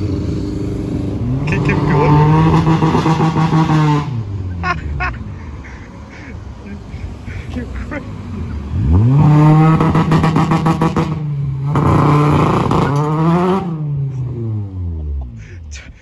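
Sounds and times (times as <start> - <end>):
car engine accelerating hard: 0.0 - 5.6, 7.6 - 15.4.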